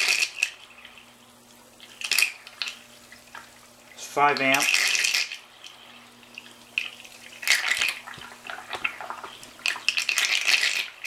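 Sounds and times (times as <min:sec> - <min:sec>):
submerged vacuum motor hum: 0:00.0 - 0:11.0
water churning and splashing: 0:00.0 - 0:11.0.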